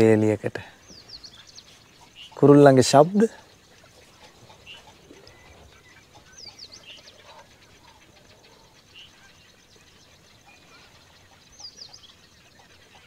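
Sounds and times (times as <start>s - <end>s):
faint high bird trill: 0.0s - 13.0s
high falling bird chirps: 0.0s - 13.0s
short bird calls: 0.7s - 13.0s.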